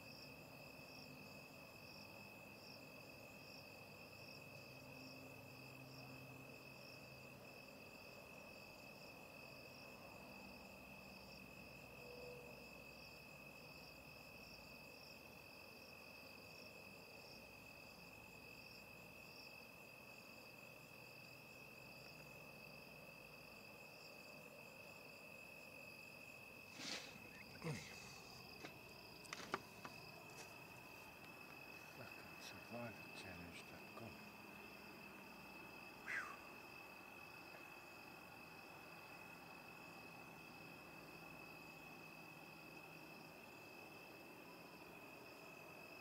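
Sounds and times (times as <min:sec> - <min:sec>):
faint crickets trilling: 0:00.0 - 0:46.0.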